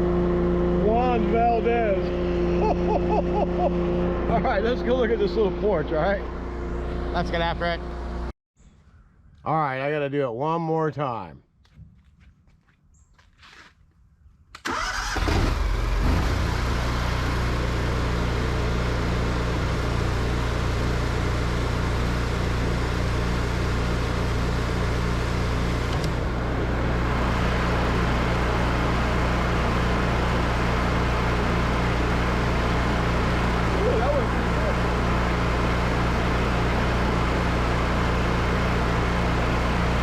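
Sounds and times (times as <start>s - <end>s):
pressure washer engine hum: 0.0s - 8.3s, 14.7s - 40.0s.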